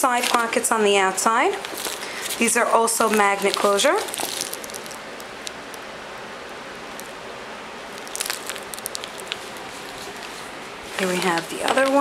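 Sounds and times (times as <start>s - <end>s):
coated fabric rustling and crinkling: 0.0s - 5.8s, 6.8s - 12.0s
crackles of bag fabric: 0.0s - 5.8s, 7.9s - 12.0s
steady background hiss: 0.0s - 12.0s.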